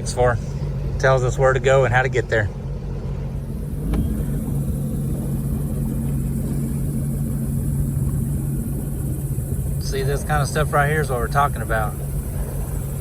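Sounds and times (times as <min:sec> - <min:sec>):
jet ski engine droning: 0:00.0 - 0:13.0
water and wind noise: 0:00.0 - 0:13.0.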